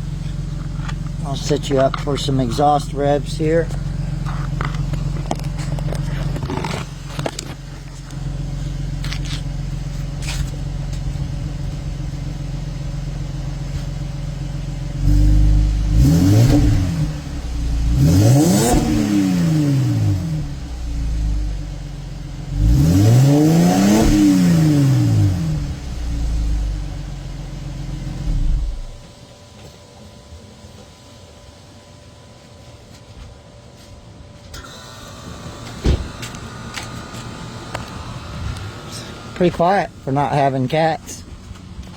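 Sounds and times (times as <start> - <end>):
car engine idling and revving: 0.0 - 29.3, 34.5 - 41.9.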